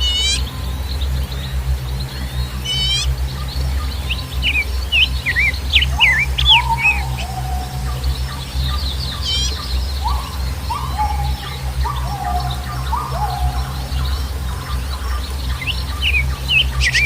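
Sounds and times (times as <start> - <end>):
bird trill: 0.0 - 17.0
birds chirping: 0.0 - 17.0
steady low rumble: 0.0 - 17.0
lower falling bird call: 2.0 - 17.0.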